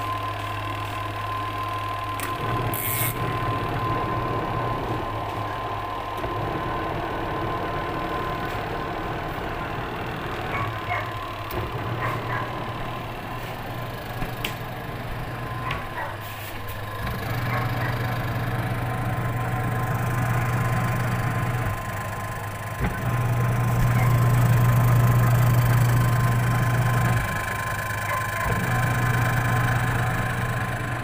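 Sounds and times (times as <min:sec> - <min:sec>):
washing machine motor humming: 0:00.0 - 0:31.0.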